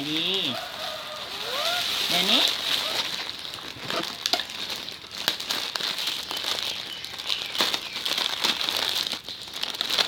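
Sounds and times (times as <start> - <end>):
crinkling rustling handling noise: 0.0 - 10.0.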